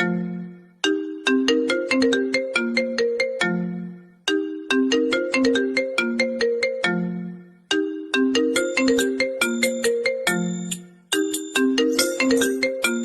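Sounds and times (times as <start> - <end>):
phone ringtone melody: 0.0 - 13.0.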